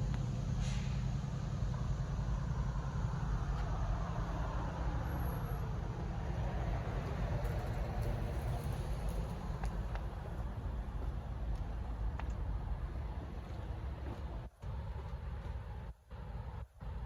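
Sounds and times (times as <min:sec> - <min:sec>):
locomotive engine rumble: 0:00.0 - 0:17.0.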